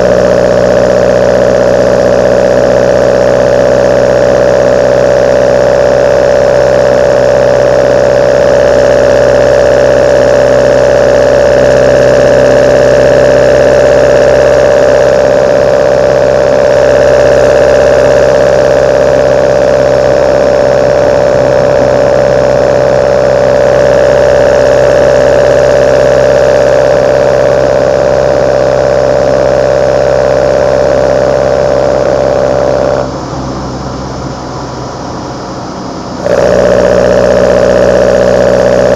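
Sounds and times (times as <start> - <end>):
car engine running with intake hum: 0.0 - 38.9.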